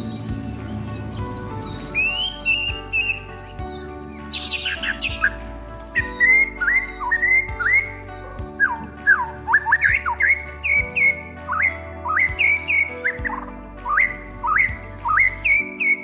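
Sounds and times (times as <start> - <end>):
bird singing whistled notes: 1.2 - 5.4, 6.1 - 8.0, 8.6 - 16.0.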